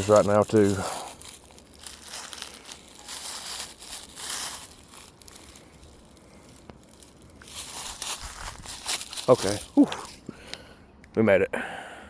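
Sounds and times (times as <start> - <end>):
footsteps crunching and rustling: 0.0 - 10.4.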